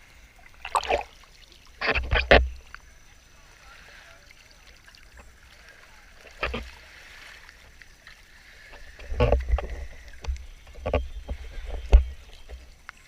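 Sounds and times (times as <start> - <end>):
water splashing and lapping: 0.0 - 13.0.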